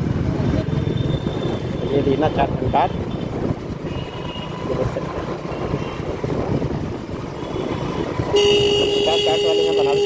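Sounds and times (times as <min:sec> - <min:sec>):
motorbike engine: 0:00.0 - 0:10.0
road rumble: 0:00.0 - 0:10.0.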